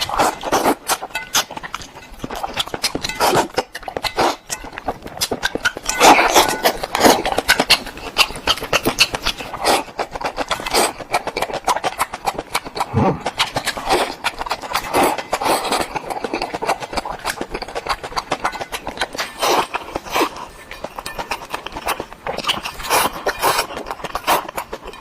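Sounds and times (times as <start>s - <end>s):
wet chewing mouth clicks: 0.0s - 25.0s.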